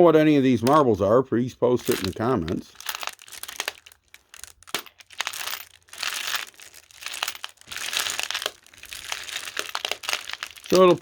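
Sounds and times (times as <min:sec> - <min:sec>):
glass marbles clicking and rattling: 0:01.8 - 0:11.0.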